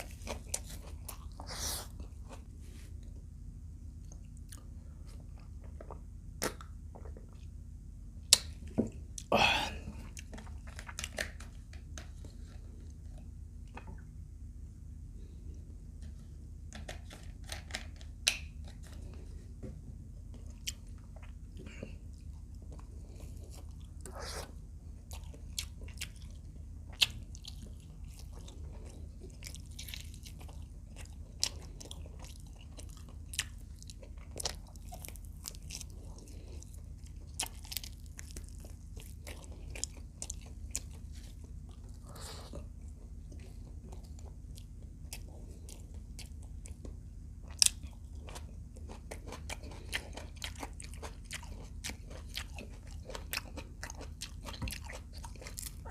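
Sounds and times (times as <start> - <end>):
chewing and crunching: 0.0 - 3.2, 4.0 - 7.6, 8.2 - 14.1, 15.2 - 55.9
steady low hum: 0.0 - 55.9.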